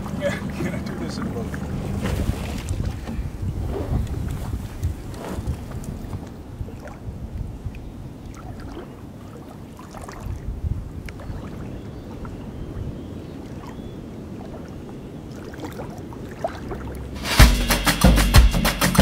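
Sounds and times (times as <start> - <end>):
calm lagoon water: 0.0 - 17.2
wind rumbling on microphone: 0.0 - 17.2.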